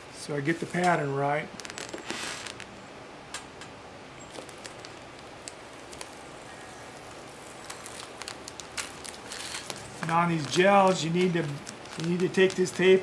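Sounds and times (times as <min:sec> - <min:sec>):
low hiss: 0:00.0 - 0:13.0
tape peeling with crackles: 0:00.5 - 0:02.8, 0:04.2 - 0:13.0.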